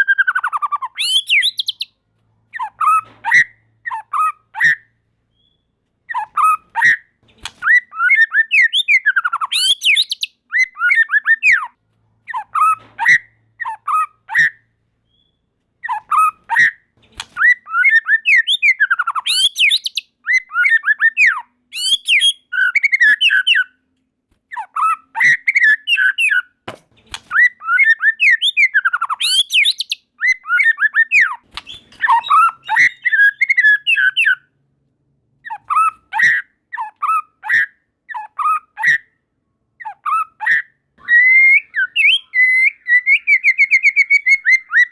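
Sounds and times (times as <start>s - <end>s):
bird singing: 0.0s - 6.9s, 7.6s - 16.7s, 17.4s - 23.8s, 24.5s - 26.6s, 27.3s - 34.5s, 39.8s - 44.9s.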